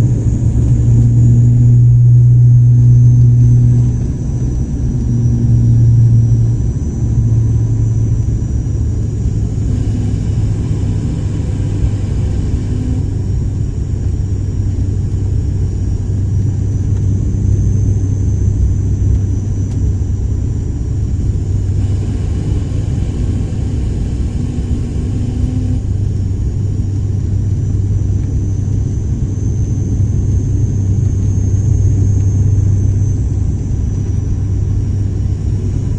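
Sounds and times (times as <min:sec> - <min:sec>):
faint high engine whine: 0:00.0 - 0:35.9
propeller drone: 0:00.0 - 0:35.9.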